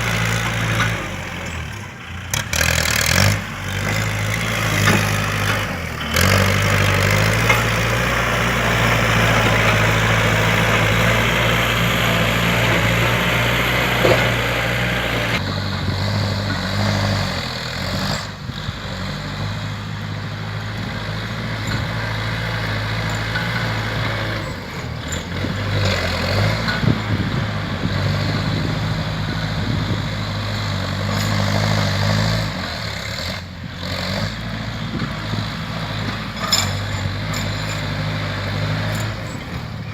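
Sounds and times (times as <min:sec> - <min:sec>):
tractor diesel engine working: 0:00.0 - 0:39.9.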